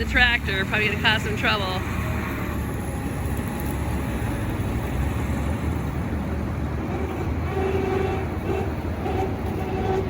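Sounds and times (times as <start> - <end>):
farm machinery engine drone: 0.0 - 10.0.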